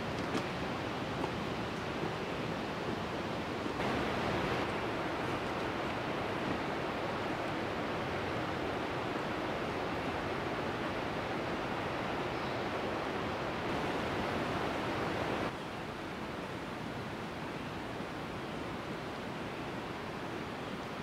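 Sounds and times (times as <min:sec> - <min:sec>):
steady rushing outdoor noise: 0:00.0 - 0:21.0.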